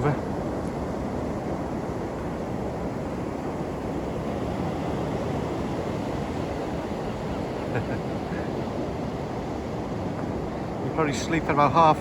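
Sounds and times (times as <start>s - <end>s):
surf washing on beach: 0.0s - 12.0s
wind rumbling on microphone: 0.0s - 12.0s.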